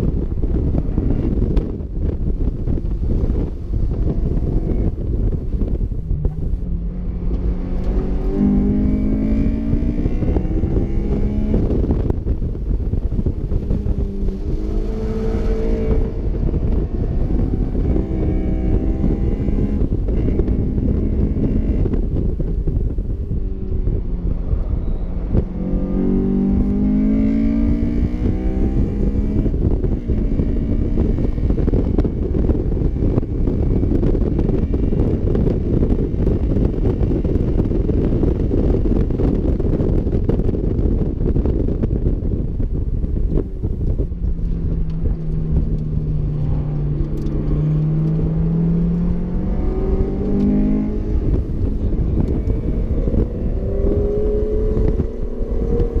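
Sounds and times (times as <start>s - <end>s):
wind buffeting: 0.0s - 56.0s
car engine accelerating hard: 0.1s - 56.0s.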